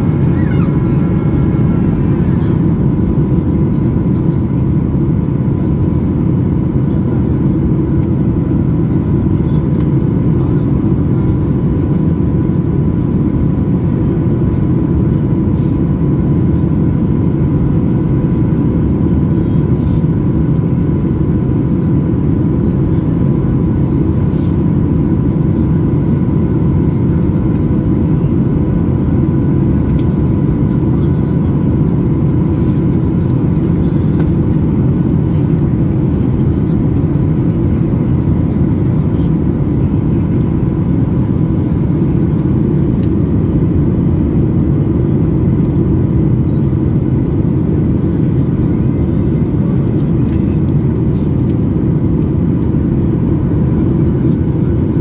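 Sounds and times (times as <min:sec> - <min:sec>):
jet engine drone: 0:00.0 - 0:55.0.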